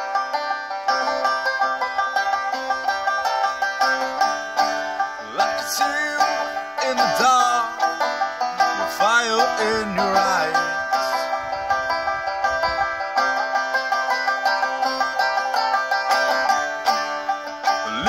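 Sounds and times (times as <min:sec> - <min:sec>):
banjo picking: 0:00.0 - 0:18.0.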